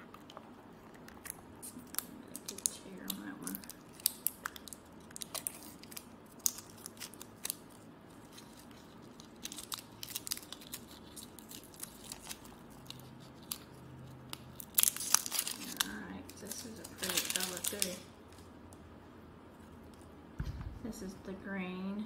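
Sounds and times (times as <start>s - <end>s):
tape roll clicking and crinkling: 0.0s - 18.5s.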